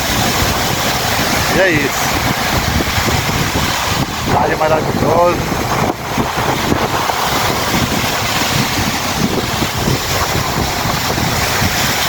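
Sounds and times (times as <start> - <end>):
sea surf on beach: 0.0 - 12.0
wind on microphone: 0.0 - 12.0.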